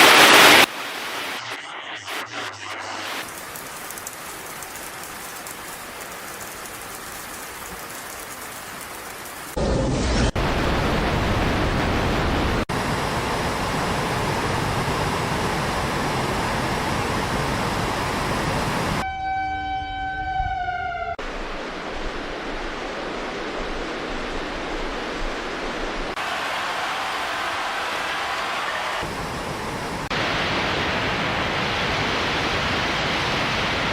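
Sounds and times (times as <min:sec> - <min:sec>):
flood water rushing: 0:00.0 - 0:02.2, 0:02.9 - 0:19.0, 0:21.2 - 0:33.9
rain: 0:00.0 - 0:19.0, 0:21.2 - 0:33.9.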